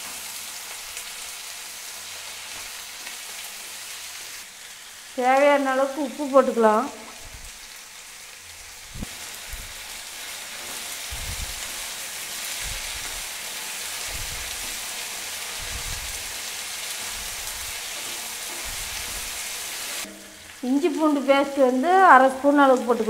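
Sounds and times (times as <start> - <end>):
potatoes sizzling in oil: 0.0 - 23.0.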